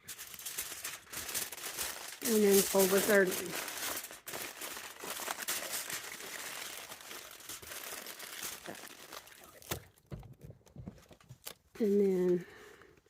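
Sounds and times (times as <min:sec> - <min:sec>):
aluminum foil crinkling: 0:00.0 - 0:10.2, 0:11.0 - 0:12.5.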